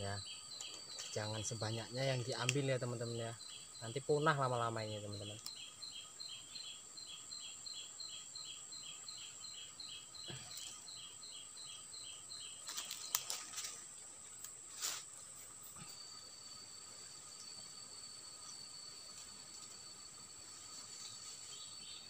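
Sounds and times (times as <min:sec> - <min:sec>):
insects chirping rhythmically: 0:00.0 - 0:22.0.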